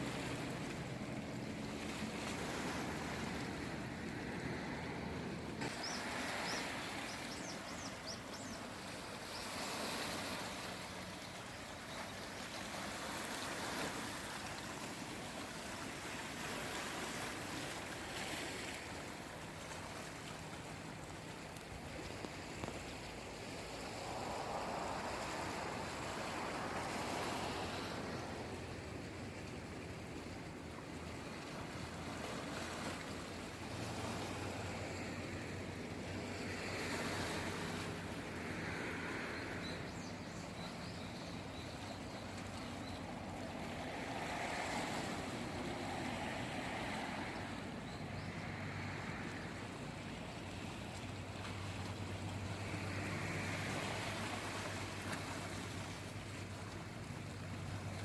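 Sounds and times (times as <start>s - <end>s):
sea waves washing: 0.0s - 58.0s.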